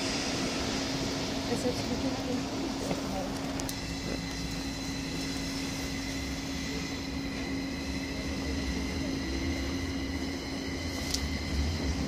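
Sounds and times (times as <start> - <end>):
electric train rumbling: 0.0 - 12.0
high whining tones: 0.0 - 12.0.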